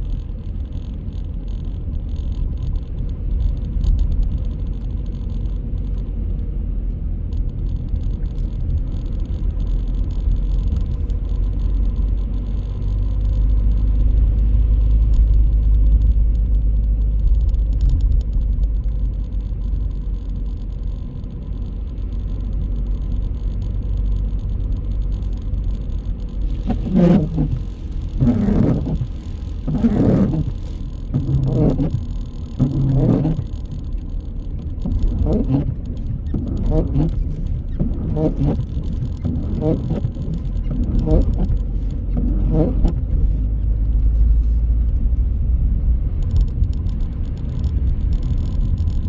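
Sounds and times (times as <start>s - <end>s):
car engine and road noise: 0.0s - 49.0s.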